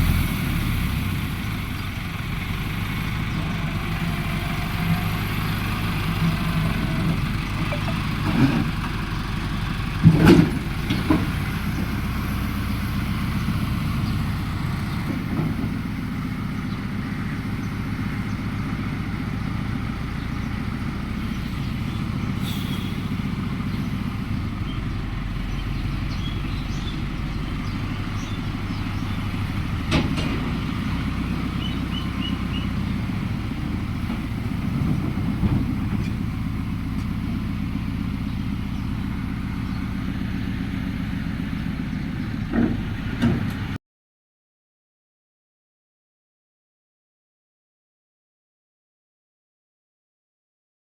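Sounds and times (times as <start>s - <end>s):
farm machine engine running: 0.0s - 43.8s.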